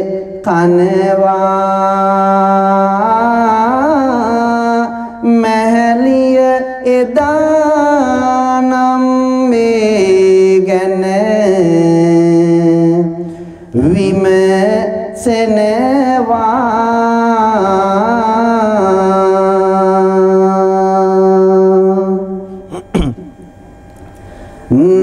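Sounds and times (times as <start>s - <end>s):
man chanting long notes: 0.0s - 23.5s, 24.4s - 25.0s.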